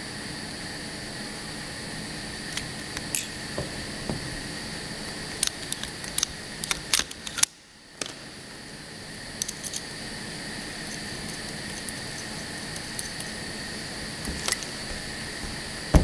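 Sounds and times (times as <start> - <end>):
machine humming with high whine: 0.0 - 16.0.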